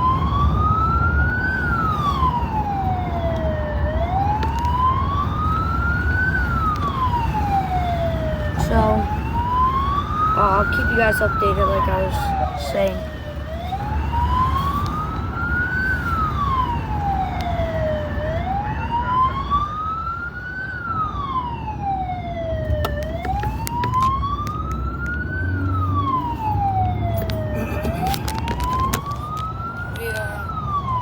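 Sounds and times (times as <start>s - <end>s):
emergency siren wailing: 0.0s - 31.0s
vehicle rumble on road: 0.0s - 31.0s.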